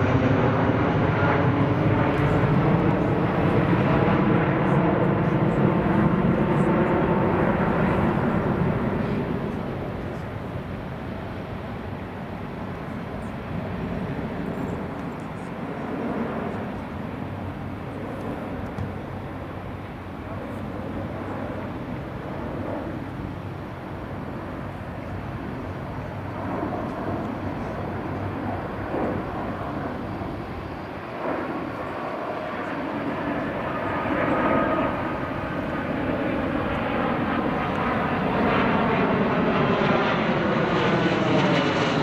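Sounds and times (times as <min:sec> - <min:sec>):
jet engines in flight: 0:00.0 - 0:42.0.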